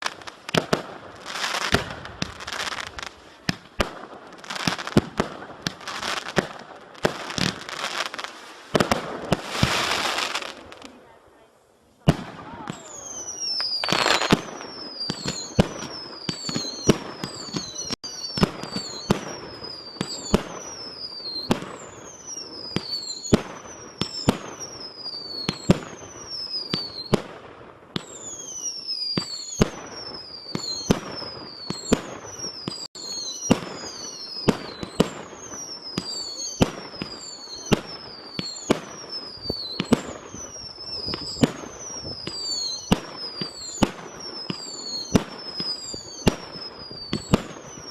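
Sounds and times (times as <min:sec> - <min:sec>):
fireworks bangs: 0:00.0 - 0:47.9.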